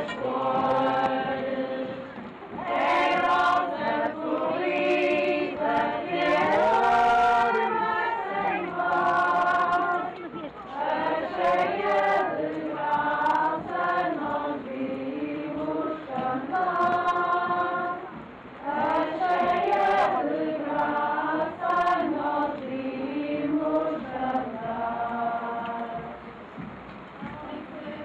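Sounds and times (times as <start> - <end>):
crowd singing a hymn: 0.0 - 28.0.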